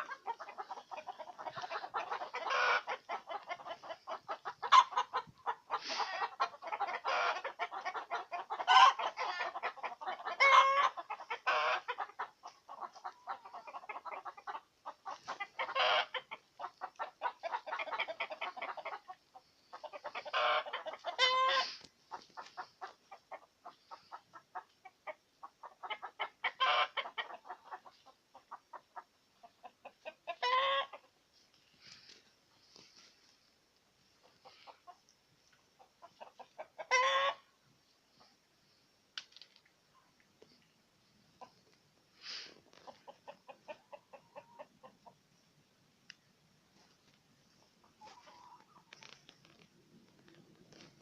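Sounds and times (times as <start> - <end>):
chicken drawn-out calls: 0.0 - 33.5, 34.1 - 38.3, 41.3 - 45.2, 46.8 - 51.0
chickens clucking: 0.0 - 51.0.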